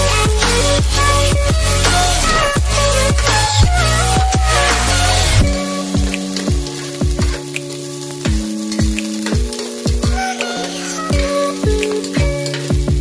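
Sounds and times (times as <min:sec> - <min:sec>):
music with steady drum beat: 0:00.0 - 0:13.0
food sizzling in hot oil: 0:00.2 - 0:13.0.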